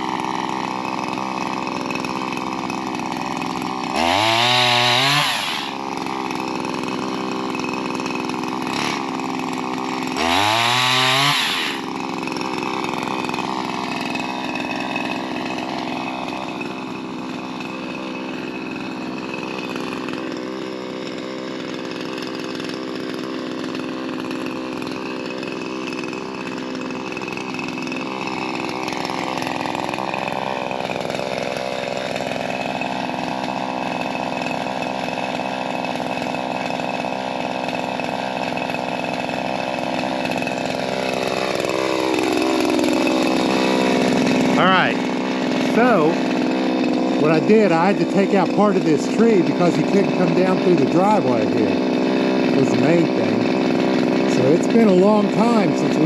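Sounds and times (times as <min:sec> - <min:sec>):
small two-stroke engine idling and revving: 0:00.0 - 0:56.0.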